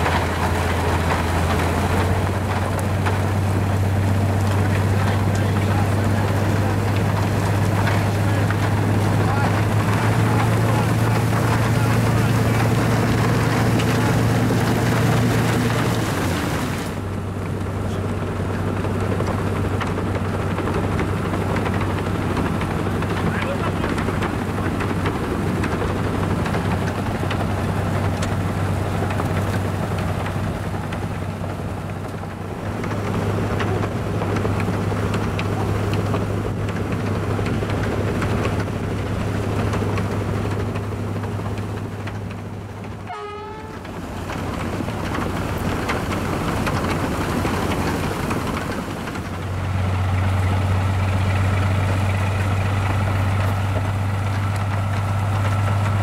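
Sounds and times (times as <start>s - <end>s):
locomotive engine drone: 0.0s - 56.0s
snow rushing off plow: 0.0s - 56.0s.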